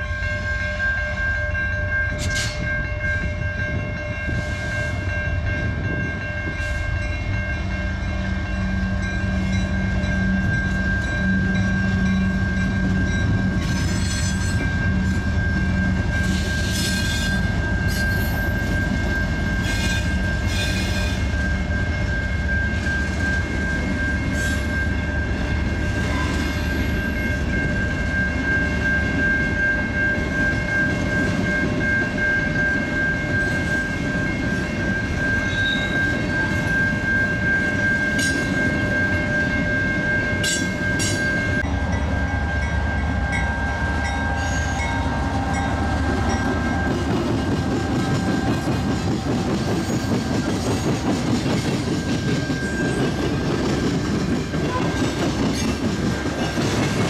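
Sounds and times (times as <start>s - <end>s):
high-pitched ringing tone: 0.0s - 48.5s, 51.9s - 53.4s
freight train wheels rumbling: 0.0s - 57.0s.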